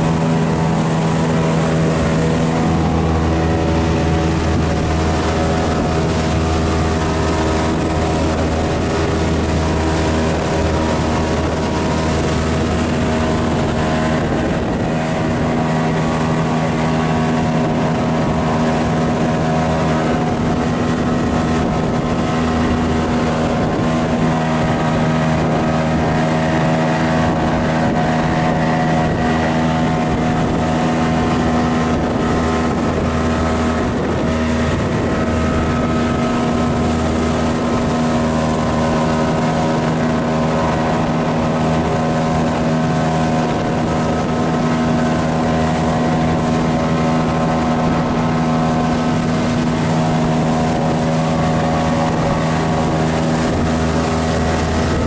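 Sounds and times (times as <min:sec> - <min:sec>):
motorboat engine running: 0:00.0 - 0:55.0
rush of wind and water: 0:00.0 - 0:55.0.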